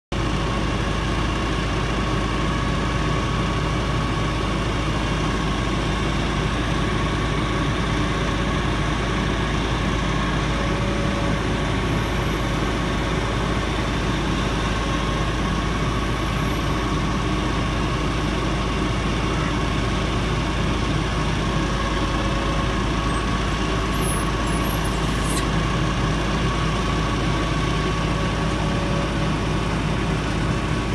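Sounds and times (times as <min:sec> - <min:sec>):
diesel truck engines running: 0:00.1 - 0:30.9
constant whine: 0:00.2 - 0:30.9.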